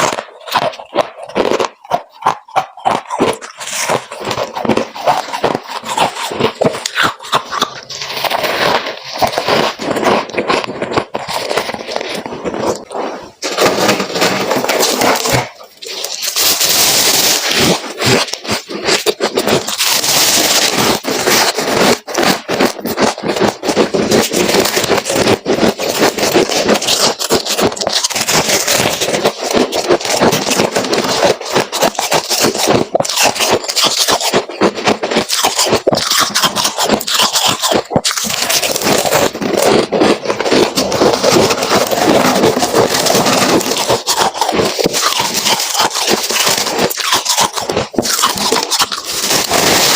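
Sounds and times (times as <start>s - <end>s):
frost crunching while chewed: 0.0s - 49.9s.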